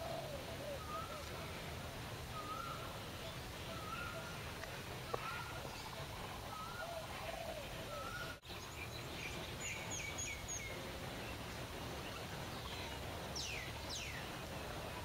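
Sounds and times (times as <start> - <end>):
birds chirping: 0.0 - 15.0
downward-sweeping bird calls: 0.0 - 15.0.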